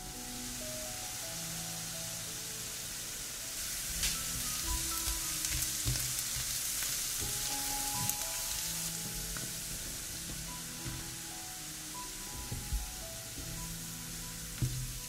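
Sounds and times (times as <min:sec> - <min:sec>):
onion sizzling in a frying pan: 0:00.0 - 0:15.0
soft background music: 0:00.0 - 0:15.0.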